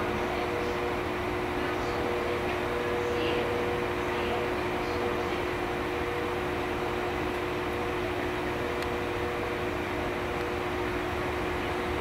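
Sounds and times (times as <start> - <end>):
train approaching slowly: 0.0 - 12.0.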